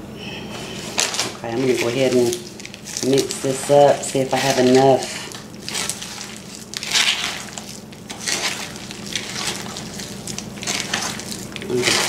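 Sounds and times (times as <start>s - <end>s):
hands squelching meat mixture: 0.8s - 12.0s.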